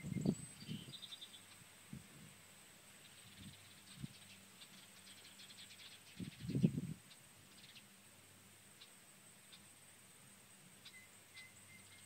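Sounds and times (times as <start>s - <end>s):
distant birds chirping: 0.0s - 1.8s, 2.6s - 12.0s.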